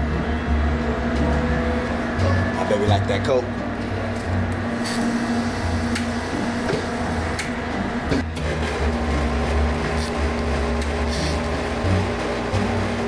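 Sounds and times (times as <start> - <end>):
slushie machine humming: 0.0 - 13.0.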